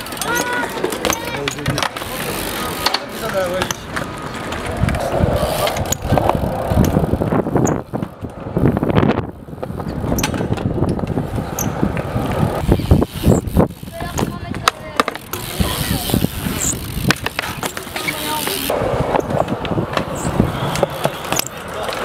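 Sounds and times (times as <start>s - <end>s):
bike knocking and clattering: 0.0s - 22.0s
bike tyres rolling on concrete: 0.0s - 22.0s.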